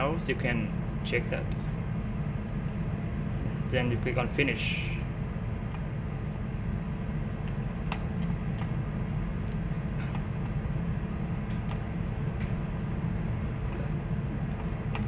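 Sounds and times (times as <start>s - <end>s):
machinery and ventilation hum: 0.0s - 15.0s.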